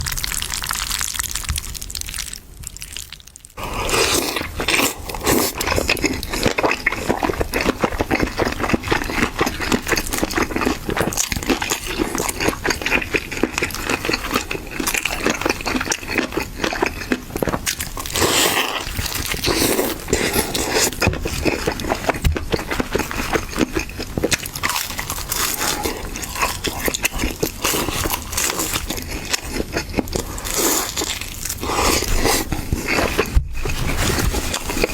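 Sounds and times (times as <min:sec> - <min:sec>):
chewing crunchy chicken feet: 0:00.0 - 0:34.9.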